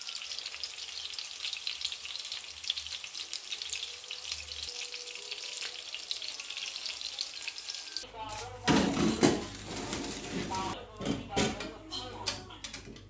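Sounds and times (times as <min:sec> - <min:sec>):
kebabs sizzling in hot oil: 0:00.0 - 0:10.8.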